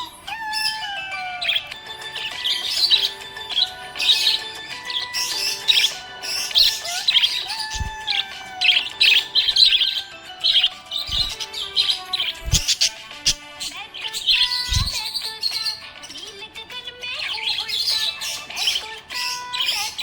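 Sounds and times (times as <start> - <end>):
budgerigar chattering: 0.0 - 16.4, 17.0 - 20.0.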